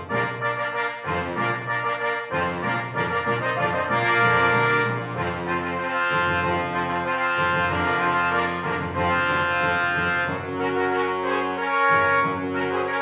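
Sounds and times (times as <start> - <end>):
brass slow held chords: 0.0 - 13.0.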